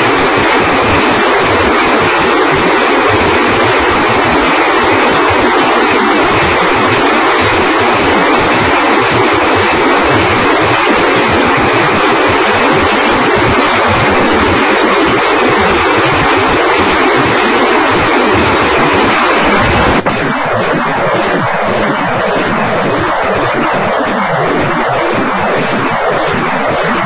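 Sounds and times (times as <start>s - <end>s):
rocket salvo rushing roar: 0.0s - 27.0s.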